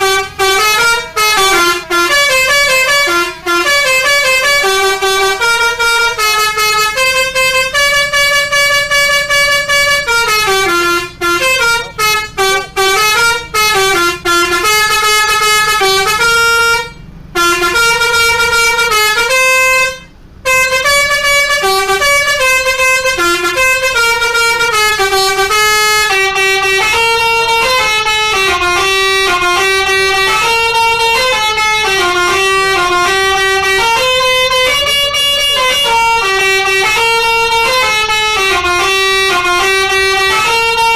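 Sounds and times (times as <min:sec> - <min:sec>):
musical bus air horn: 0:00.0 - 0:40.9.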